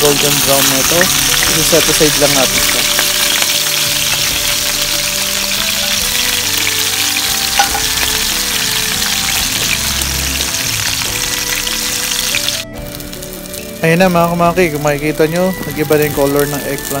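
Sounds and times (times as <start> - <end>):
slices frying in hot oil: 0.0 - 17.0
soft background music: 0.0 - 17.0.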